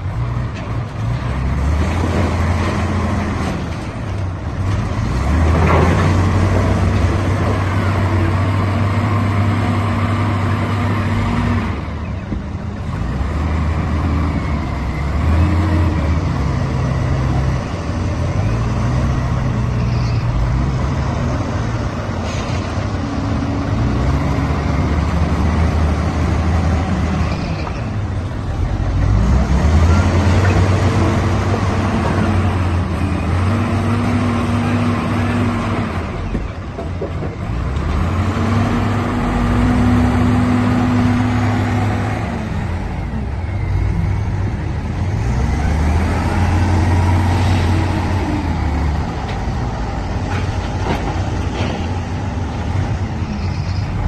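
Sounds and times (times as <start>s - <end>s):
diesel wheel loaders revving: 0.0s - 54.0s.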